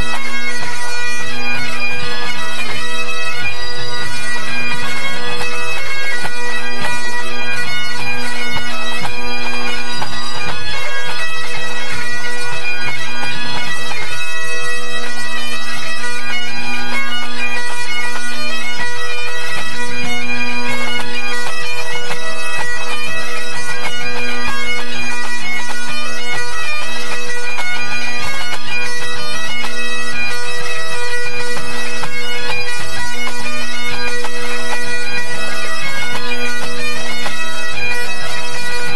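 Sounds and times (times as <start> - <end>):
bagpipe drone: 0.0 - 38.9
bagpipes playing: 0.0 - 38.9.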